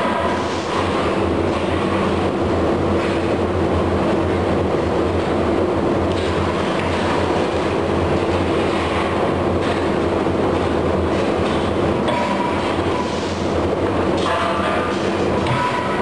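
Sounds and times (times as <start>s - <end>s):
low steady hum: 0.0s - 16.0s
machinery roar: 0.0s - 16.0s.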